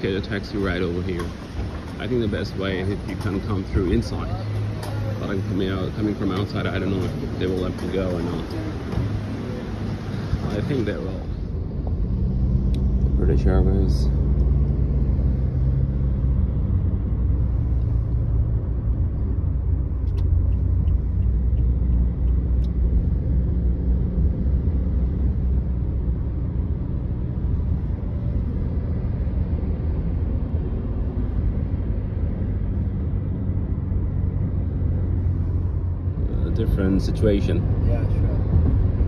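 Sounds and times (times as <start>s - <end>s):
car driving on highway: 0.0s - 39.0s.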